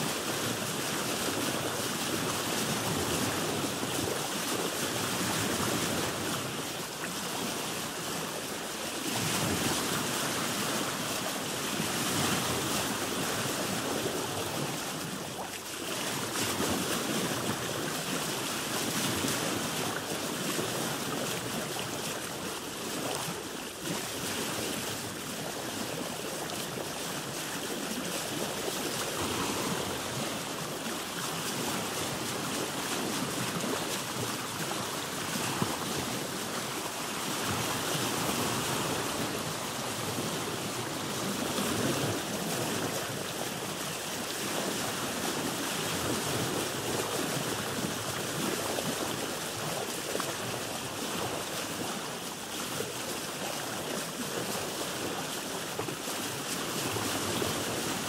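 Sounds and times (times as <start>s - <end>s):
water washing around a boat: 0.0s - 58.0s.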